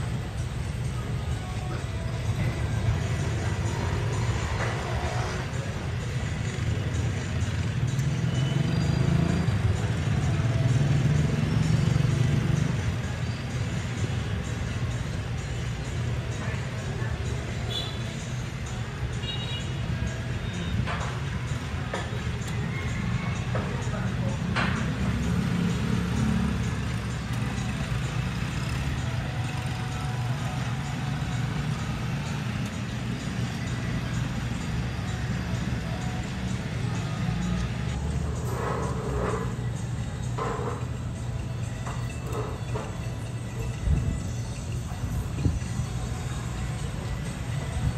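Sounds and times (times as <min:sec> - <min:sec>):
distant road traffic rumble: 0:00.0 - 0:47.9
town noise hum: 0:00.0 - 0:47.9
vehicle engine humming: 0:00.0 - 0:47.9.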